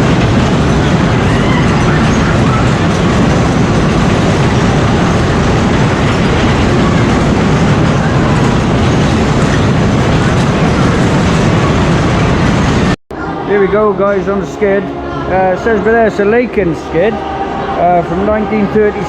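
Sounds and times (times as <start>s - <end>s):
fairground ride rumbling and clattering: 0.0s - 19.0s.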